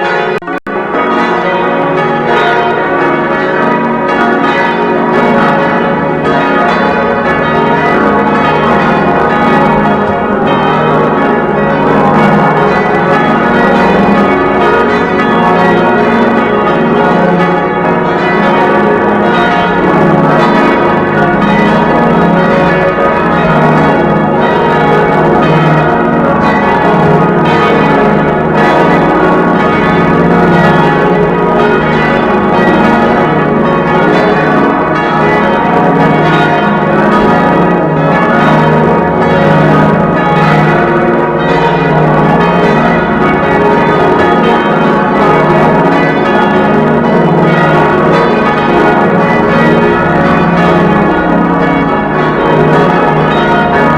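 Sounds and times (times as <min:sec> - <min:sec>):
church bells ringing: 0:00.0 - 0:53.9.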